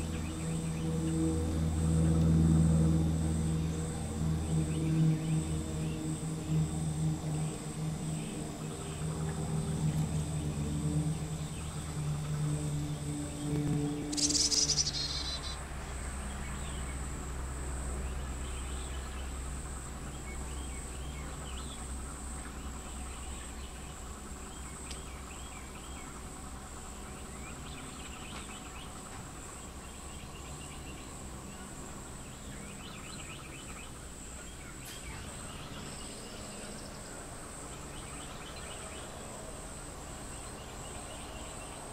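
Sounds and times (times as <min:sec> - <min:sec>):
faint insect chirps: 0:00.0 - 0:41.9
high-pitched insect drone: 0:00.0 - 0:41.9
low hum: 0:00.0 - 0:41.9.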